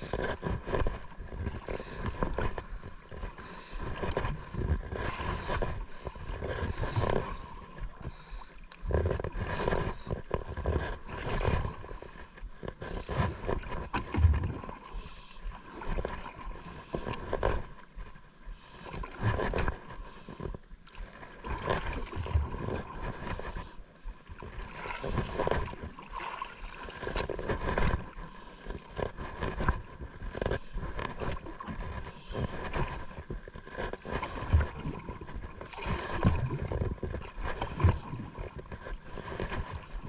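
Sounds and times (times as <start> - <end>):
water sloshing against boat: 0.0 - 40.0.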